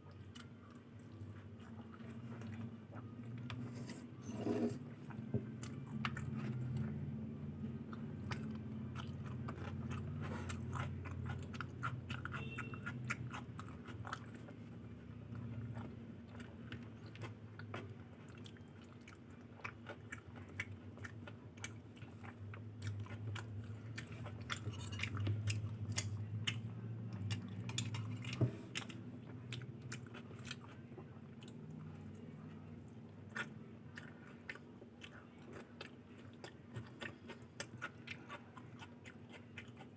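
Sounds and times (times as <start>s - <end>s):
chewing with wet mouth clicks: 5.1s - 7.0s, 7.8s - 32.2s, 32.8s - 39.9s.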